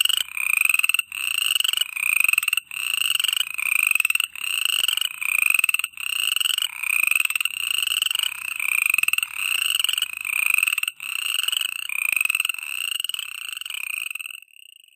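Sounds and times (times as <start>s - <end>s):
frog chorus trilling: 0.0s - 14.9s.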